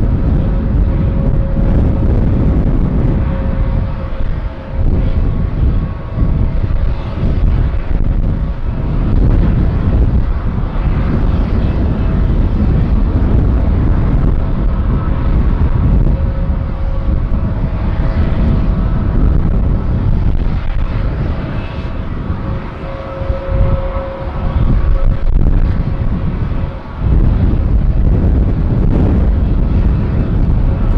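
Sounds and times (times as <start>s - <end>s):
jet engine rumble: 0.0s - 30.9s.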